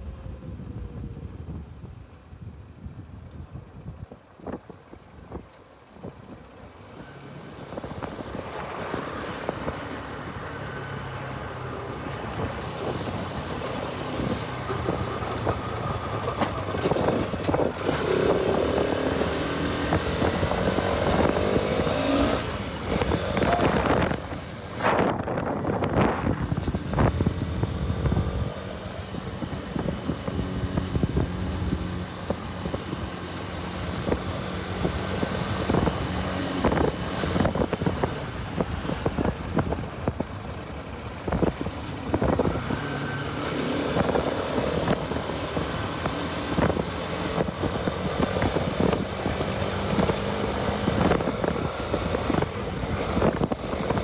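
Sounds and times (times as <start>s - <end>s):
wind noise on microphone: 0.0s - 54.0s
motorcycle engine running: 6.0s - 54.0s.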